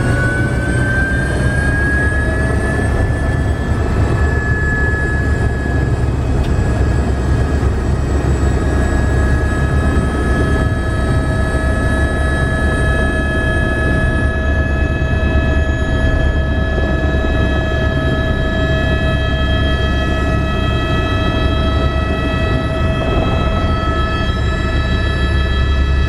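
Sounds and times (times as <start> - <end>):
light aircraft engine roar: 0.0 - 26.0
steady whine: 0.0 - 26.0.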